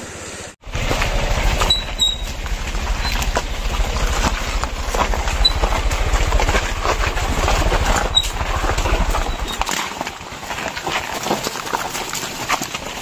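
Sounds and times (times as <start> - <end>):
motorcycle engine running: 0.1 - 13.0
footsteps crunching on stones: 0.8 - 13.0.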